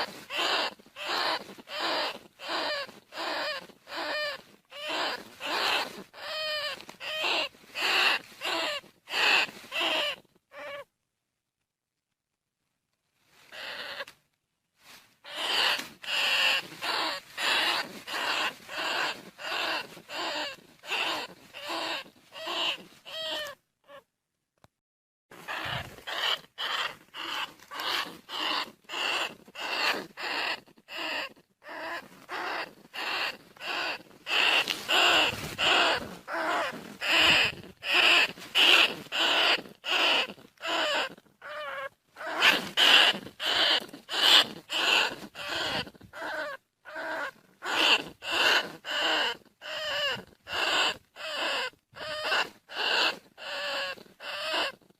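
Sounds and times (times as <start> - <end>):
rat squeaking calls: 0.0 - 10.9, 13.5 - 14.2, 15.2 - 24.0, 25.3 - 54.8.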